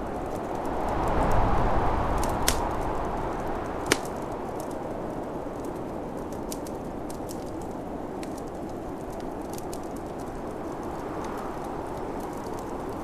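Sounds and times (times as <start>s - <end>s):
snowstorm wind rushing: 0.0s - 13.0s
wood fire crackling: 0.0s - 13.0s
fire pops: 0.1s - 13.0s.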